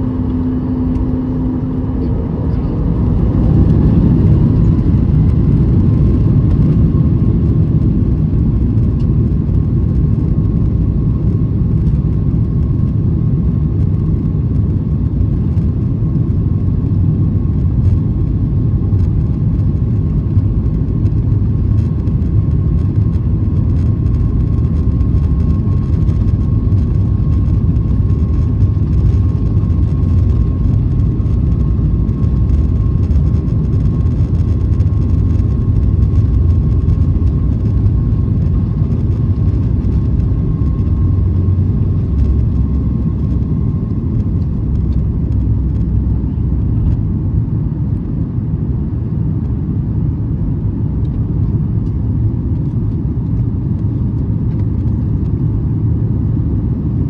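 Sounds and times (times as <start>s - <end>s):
high whine: 0.0s - 55.8s
jet engines and wheels rumbling: 0.0s - 57.0s.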